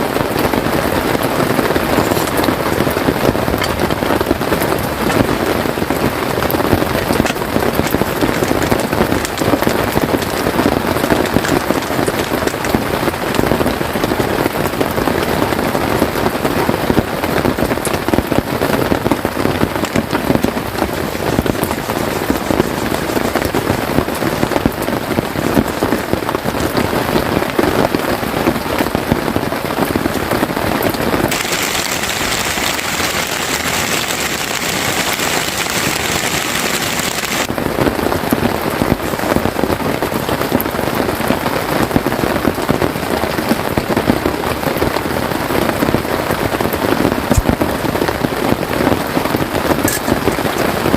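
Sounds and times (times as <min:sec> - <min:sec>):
heavy rain pattering on a tent: 0:00.0 - 0:50.9.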